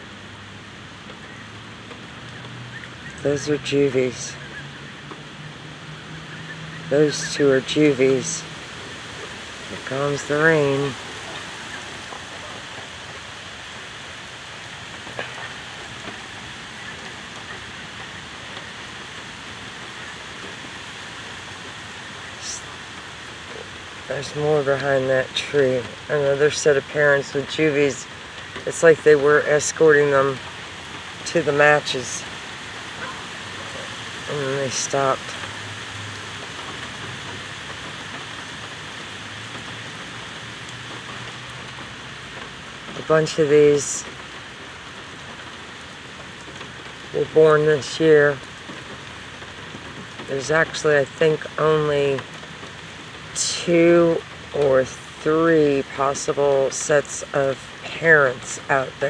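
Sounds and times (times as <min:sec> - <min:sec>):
heavy rain on pavement: 0:00.0 - 0:59.0.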